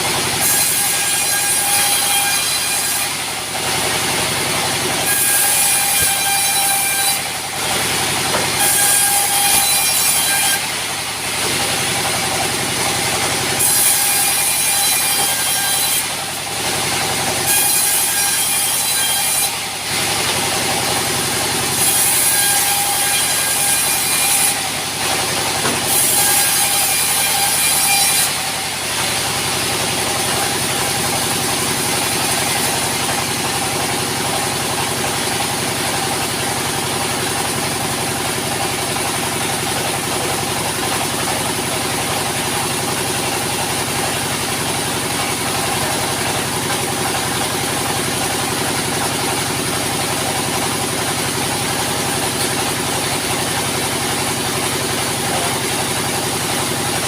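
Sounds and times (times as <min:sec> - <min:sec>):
saw blade rasping through wood: 0:00.0 - 0:56.1
sawmill saw running: 0:00.0 - 0:57.0.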